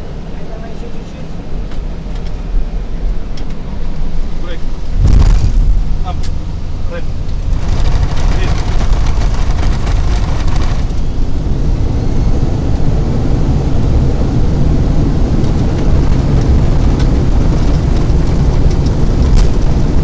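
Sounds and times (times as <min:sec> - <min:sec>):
low rumble of wheels and engines: 0:00.0 - 0:20.0.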